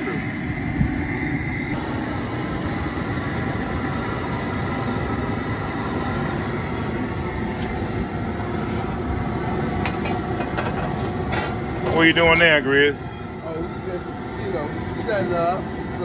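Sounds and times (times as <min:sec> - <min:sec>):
gas burner rushing: 0:00.0 - 0:16.0
water boiling: 0:00.0 - 0:16.0.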